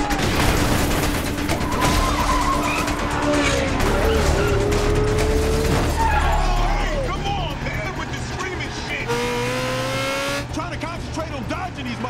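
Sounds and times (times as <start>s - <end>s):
cars crashing: 0.0s - 12.0s
film score music: 0.0s - 12.0s
car engines running: 0.3s - 12.0s.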